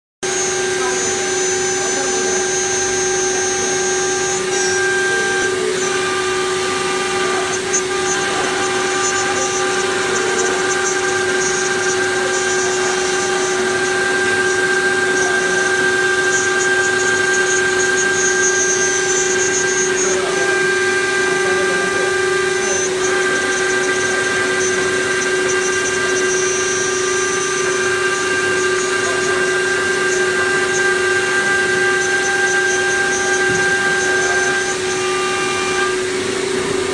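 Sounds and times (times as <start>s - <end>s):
cutting plotter mechanical whine: 0.2s - 36.9s.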